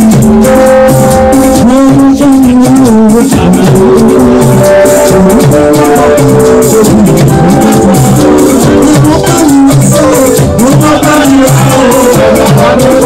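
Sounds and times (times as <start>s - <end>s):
rattle and drum beat: 0.0s - 13.0s
worship music with singing: 0.0s - 13.0s.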